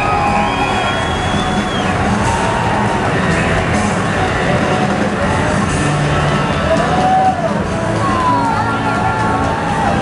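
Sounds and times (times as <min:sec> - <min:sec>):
loud rock music with guitar: 0:00.0 - 0:10.0.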